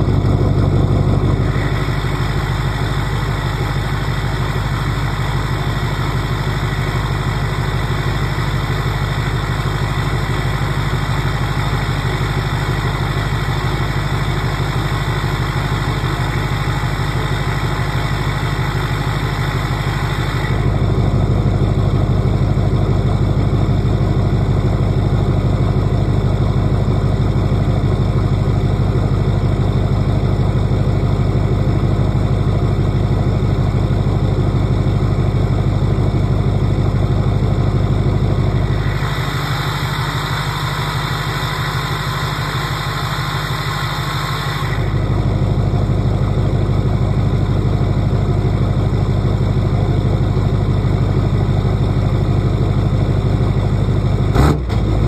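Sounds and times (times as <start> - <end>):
diesel engine idling: 0.0 - 55.0
engine clatter: 0.0 - 55.0.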